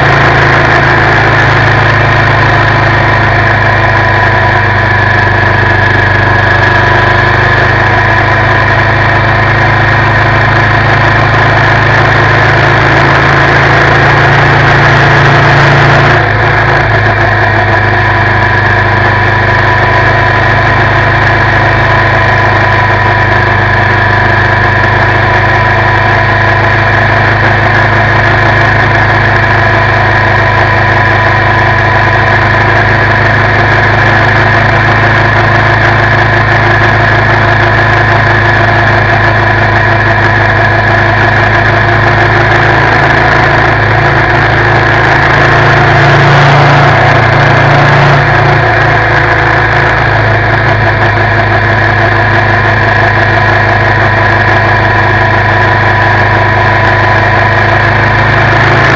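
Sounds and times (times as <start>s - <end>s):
motorcycle engine running: 0.0s - 58.9s
wind and road noise: 0.0s - 58.9s.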